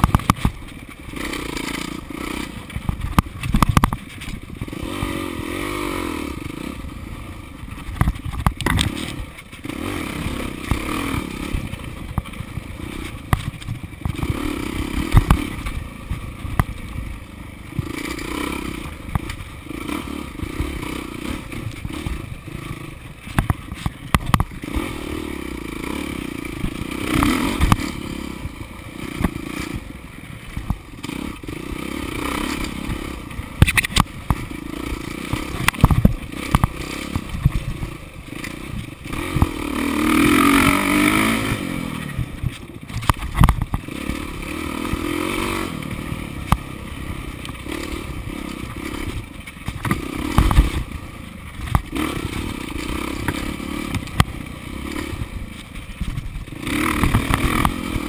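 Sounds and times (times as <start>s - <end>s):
dirt bike engine revving: 0.0s - 58.0s
knocks and clatter from bike: 0.0s - 58.0s.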